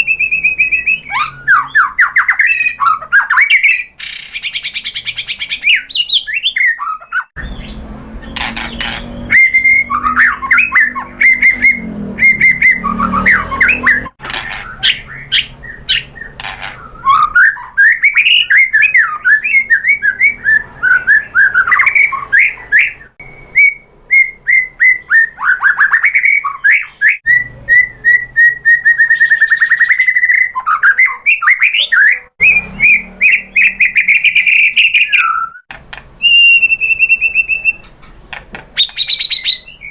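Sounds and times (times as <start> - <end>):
bird singing whistles and trills: 0.0 - 37.9, 38.8 - 39.9.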